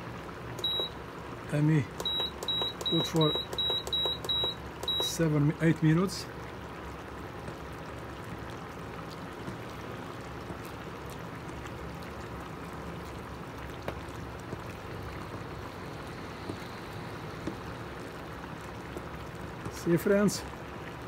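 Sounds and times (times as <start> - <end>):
sauce bubbling in a pan: 0.0 - 21.0.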